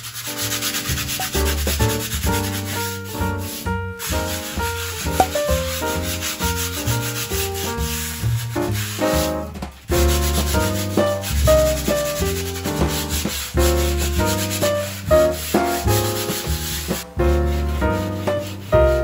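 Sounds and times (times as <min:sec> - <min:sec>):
sandpaper rubbing on board: 0:00.0 - 0:19.0.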